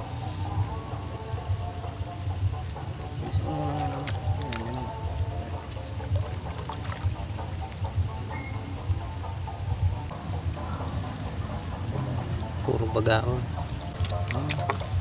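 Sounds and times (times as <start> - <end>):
crickets trilling: 0.0 - 15.0
distant animal calls: 0.0 - 15.0
low uneven rumble: 0.0 - 15.0.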